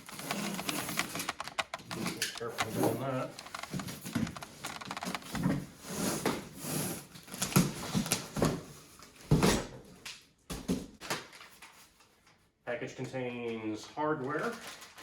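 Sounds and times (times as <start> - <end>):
cardboard and wrapping rustling: 0.0 - 10.0, 10.6 - 12.4, 14.2 - 15.0.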